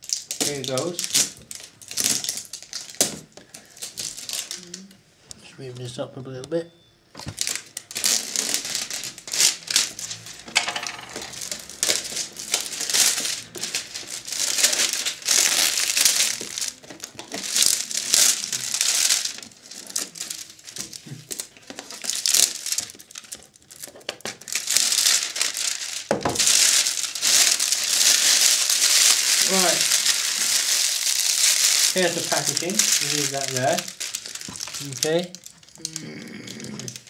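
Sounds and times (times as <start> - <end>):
plastic wrap crinkling: 0.0 - 4.9, 7.1 - 37.0.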